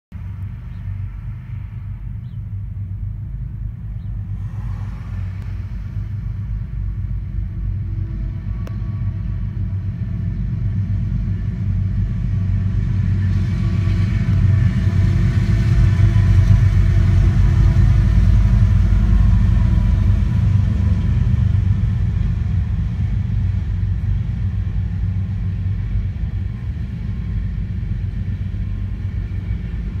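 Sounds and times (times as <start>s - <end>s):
diesel locomotives rumbling: 0.1s - 30.0s
freight cars rolling by: 0.2s - 30.0s.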